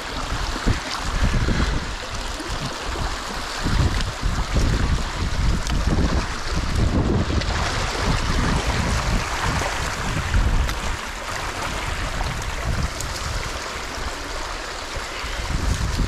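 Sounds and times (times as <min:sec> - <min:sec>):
water rushing through a dam breach: 0:00.0 - 0:16.0.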